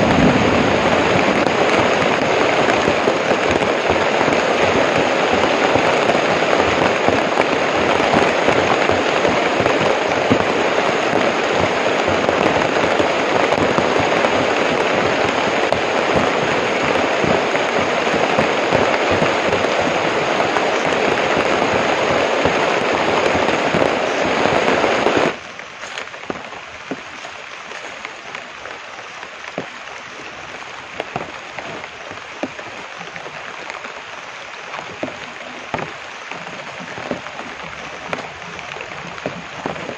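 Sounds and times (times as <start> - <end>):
heavy rain on leaves: 0.0 - 39.9
single raindrops: 0.0 - 39.9.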